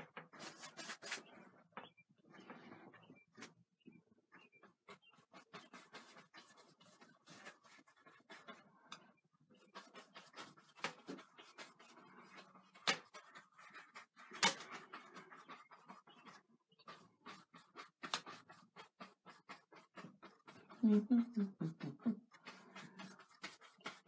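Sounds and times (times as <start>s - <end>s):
paintbrush scratching on canvas: 0.0s - 1.5s, 4.3s - 24.0s.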